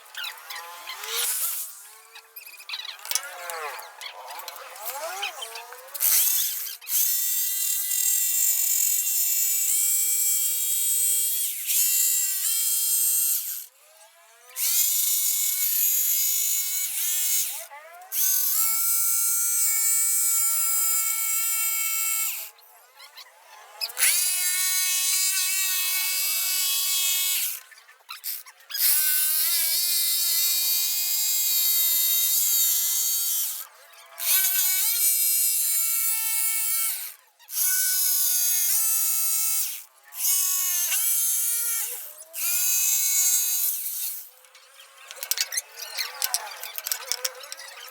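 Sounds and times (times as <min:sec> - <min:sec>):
power tool motor whining: 0:00.0 - 0:22.6, 0:23.4 - 0:47.9.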